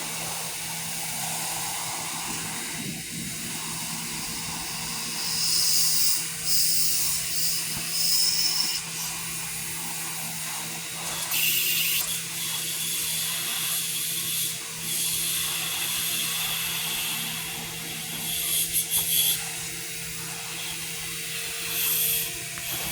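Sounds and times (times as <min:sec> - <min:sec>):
pressure washer humming: 0:00.0 - 0:22.9.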